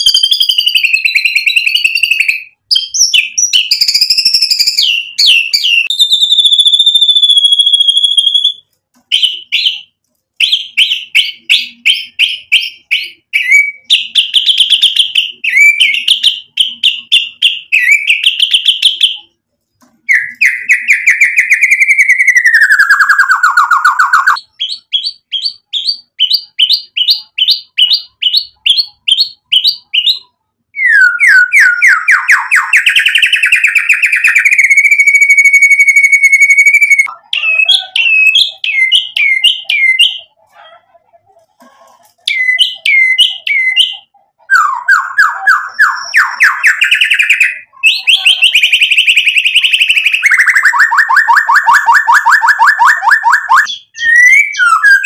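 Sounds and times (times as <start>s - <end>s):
songbird singing whistles and trills: 0.0s - 19.3s, 20.0s - 40.3s, 42.3s - 55.0s.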